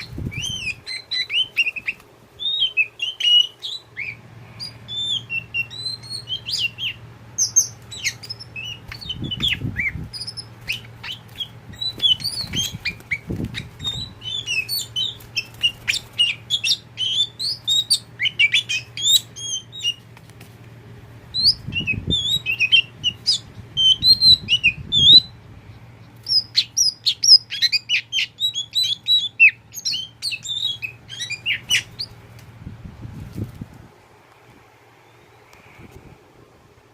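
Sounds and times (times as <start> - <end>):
bird singing chirps and whistles: 0.0 - 20.0, 21.3 - 25.4, 26.2 - 32.2
steady low hum: 0.0 - 36.9.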